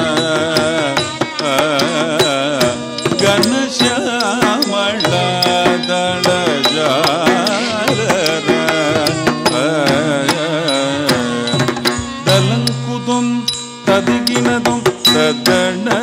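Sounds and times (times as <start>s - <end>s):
percussion strokes: 0.0s - 16.0s
person singing ornamented vocals: 0.0s - 16.0s.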